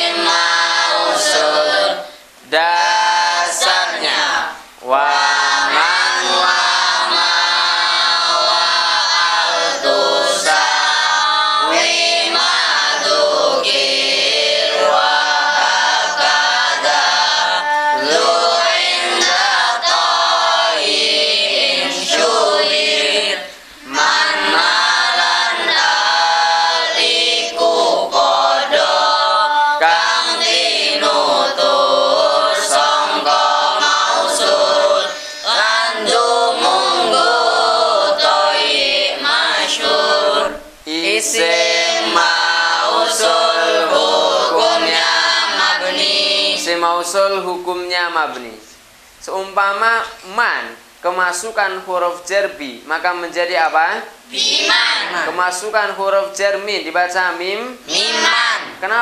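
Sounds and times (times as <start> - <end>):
boys singing in unison: 0.0 - 47.4, 54.2 - 56.7, 57.8 - 59.0.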